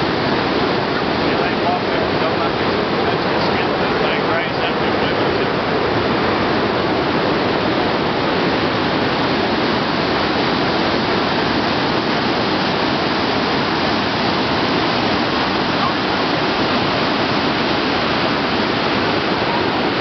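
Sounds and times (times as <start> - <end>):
rush of falling water: 0.0 - 20.0.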